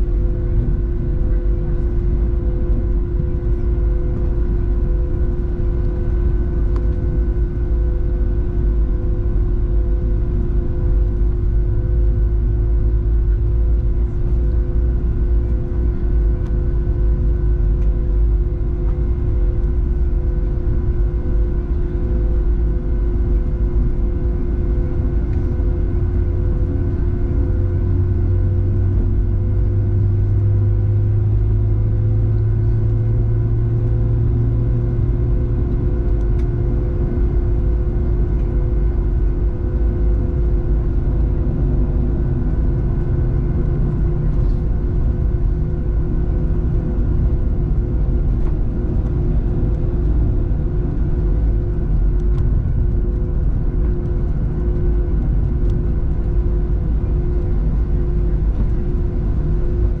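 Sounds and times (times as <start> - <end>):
airplane cabin rumble: 0.0 - 60.0.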